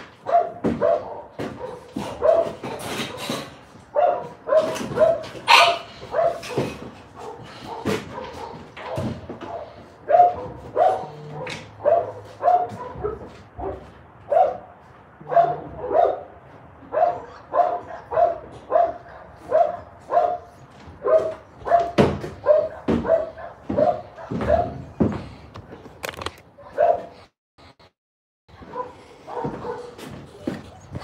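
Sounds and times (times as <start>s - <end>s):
dog barking: 0.2s - 25.2s, 26.6s - 27.3s, 28.5s - 31.0s.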